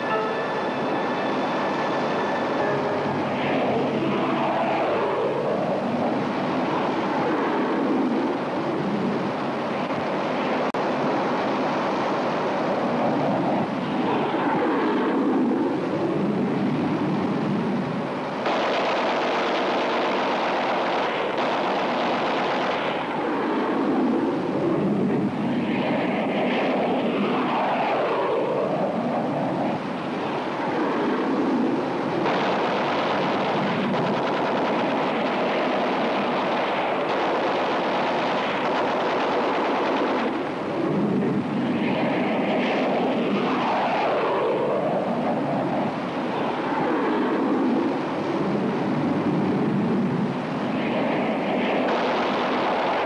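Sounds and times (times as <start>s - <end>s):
jet roar passing overhead: 0.0s - 53.0s.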